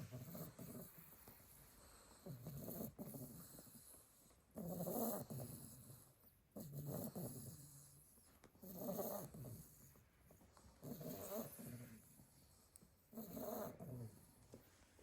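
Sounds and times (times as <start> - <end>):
puppy snoring: 0.0 - 14.6.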